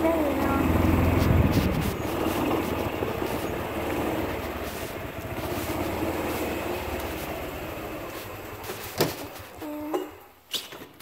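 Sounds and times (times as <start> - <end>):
golf cart driving: 0.0 - 10.2.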